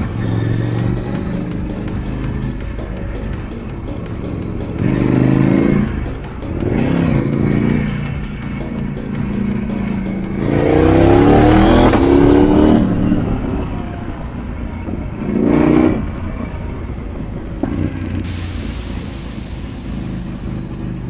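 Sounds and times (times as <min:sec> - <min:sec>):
motorcycle engine accelerating: 0:00.0 - 0:18.4.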